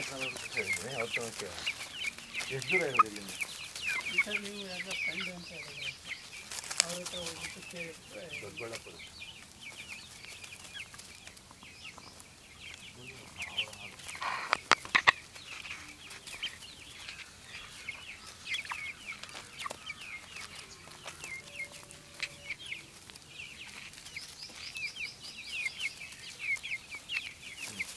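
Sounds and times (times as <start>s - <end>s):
chicks peeping: 0.0s - 27.9s.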